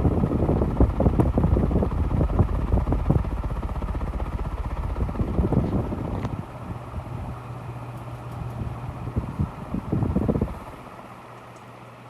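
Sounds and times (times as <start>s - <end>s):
gusty wind noise on microphone: 0.0s - 7.5s, 8.4s - 10.9s
ceiling fan running: 0.0s - 12.0s.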